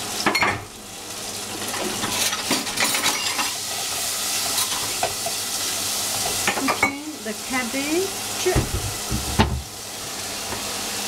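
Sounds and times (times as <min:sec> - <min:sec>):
cabbage sizzling in hot oil: 0:00.0 - 0:11.0.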